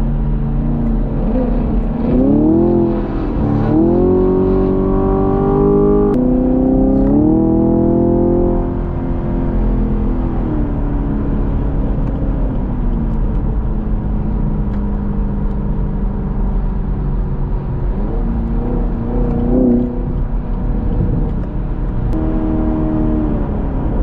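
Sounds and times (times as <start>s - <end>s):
car engine accelerating: 0.0s - 24.0s
road and wind noise: 0.0s - 24.0s.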